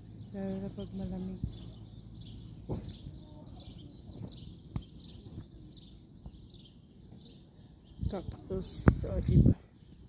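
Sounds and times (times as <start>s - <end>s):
low outdoor rumble: 0.0s - 10.0s
small birds chirping: 0.0s - 10.0s.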